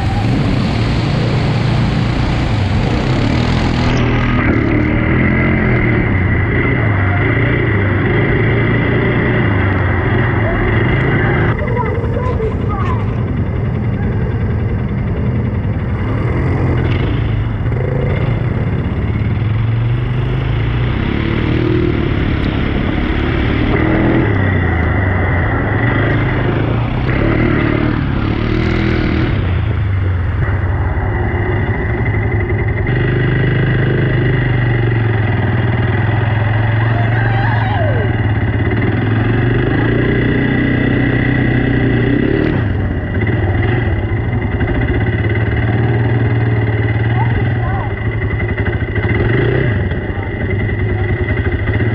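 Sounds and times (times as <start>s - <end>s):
quad bike engine revving: 0.0s - 51.9s.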